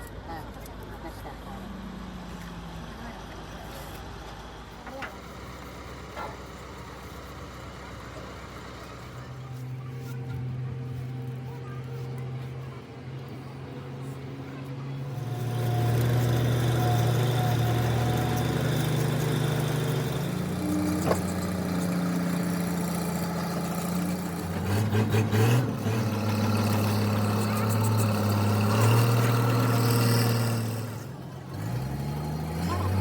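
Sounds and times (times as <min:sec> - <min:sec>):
road roller diesel engine idling: 0:00.0 - 0:33.0.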